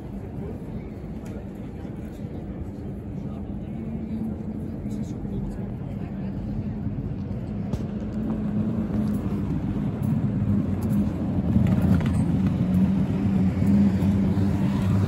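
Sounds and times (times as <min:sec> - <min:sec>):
road traffic engine rumble: 0:00.0 - 0:15.0.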